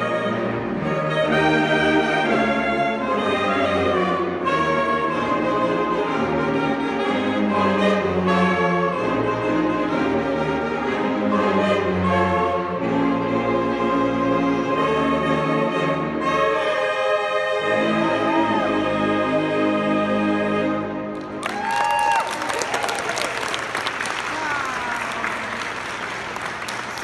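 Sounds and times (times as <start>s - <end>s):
saxophone ensemble playing chords: 0.0s - 22.4s.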